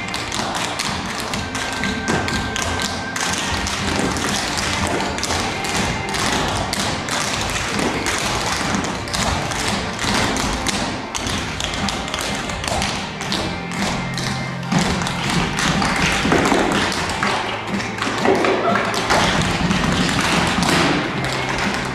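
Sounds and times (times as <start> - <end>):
feet tapping on stage floor: 0.0 - 21.9
music: 0.0 - 21.9.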